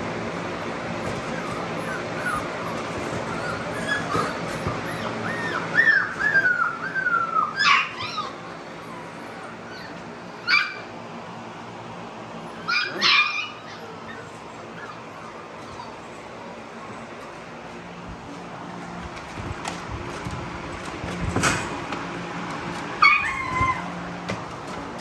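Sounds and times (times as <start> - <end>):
puppies whining: 0.0 - 11.4, 12.0 - 25.0
puppies yelping: 0.1 - 11.4, 12.0 - 17.9, 22.0 - 25.0.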